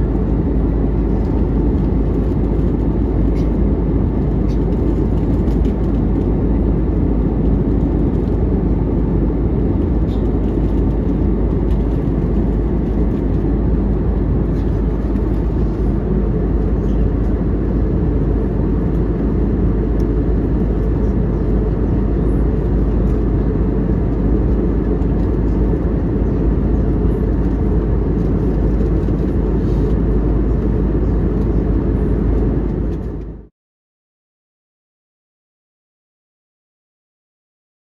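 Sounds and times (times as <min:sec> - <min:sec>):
airliner cabin engine rumble: 0:00.0 - 0:33.5.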